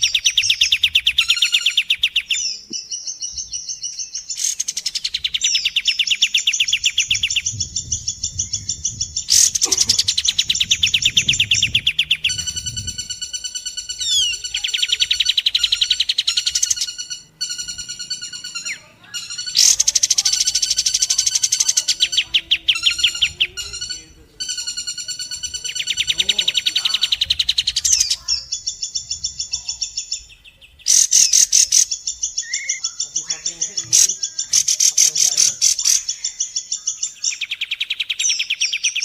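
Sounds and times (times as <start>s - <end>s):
rapid high trilled birdsong: 0.0s - 39.0s
repeated high bird call: 0.0s - 39.0s.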